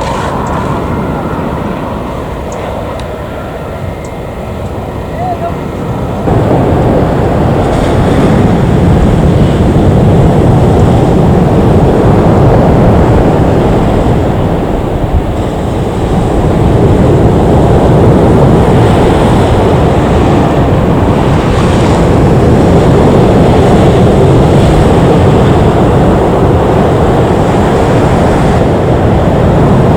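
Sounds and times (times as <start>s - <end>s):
steady rushing noise: 0.0s - 29.9s.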